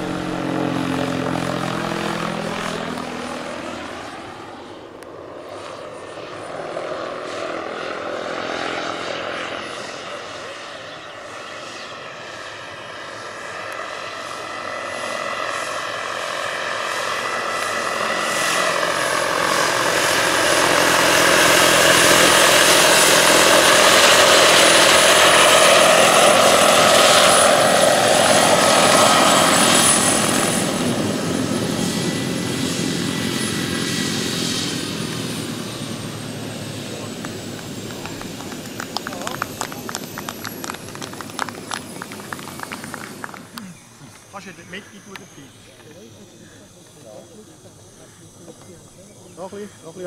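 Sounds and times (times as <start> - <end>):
model helicopter turbine whine: 0.0 - 50.0.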